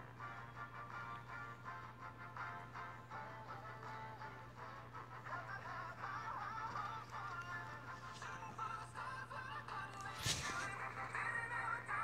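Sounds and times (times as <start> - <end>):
faint pulsing background music: 0.0 - 12.0.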